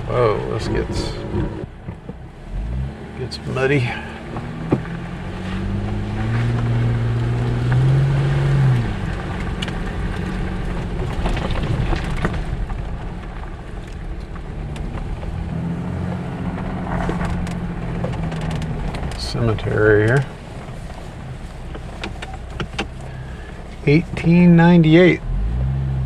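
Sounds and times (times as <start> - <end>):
vehicle engine pulling through mud: 0.0 - 26.0
knocks and clatter from tyres: 1.2 - 2.3, 4.0 - 24.2.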